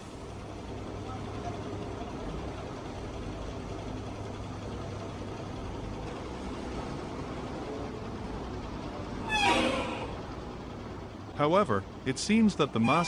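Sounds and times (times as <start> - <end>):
heavy truck engine rumbling: 0.0 - 11.4, 12.4 - 13.0.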